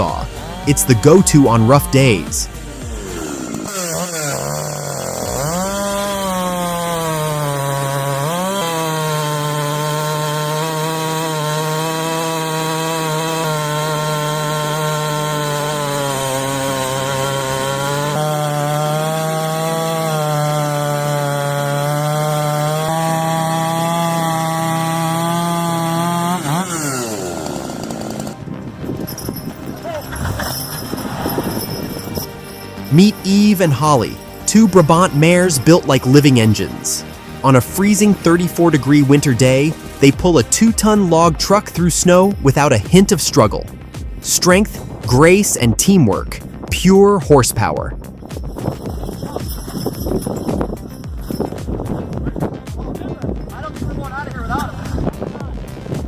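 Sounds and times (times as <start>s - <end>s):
chainsaw sawing through wood: 0.0s - 56.0s.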